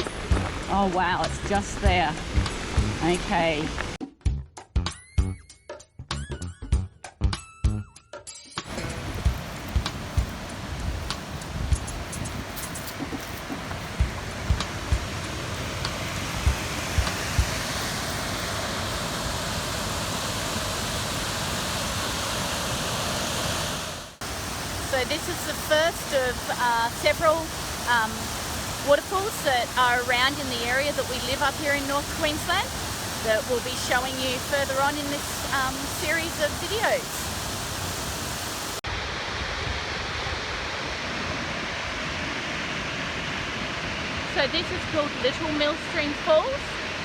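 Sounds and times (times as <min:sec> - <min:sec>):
waterfall rushing: 0:08.7 - 0:47.0.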